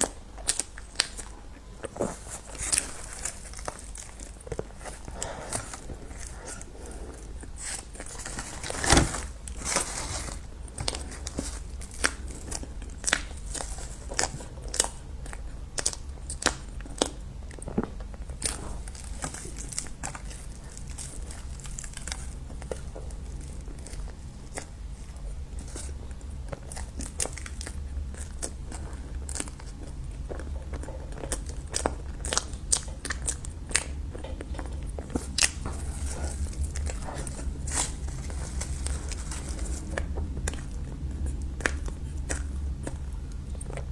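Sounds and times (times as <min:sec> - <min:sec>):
person chewing with clicks: 0:00.0 - 0:08.6, 0:10.7 - 0:43.9
steady low hum: 0:00.0 - 0:43.9.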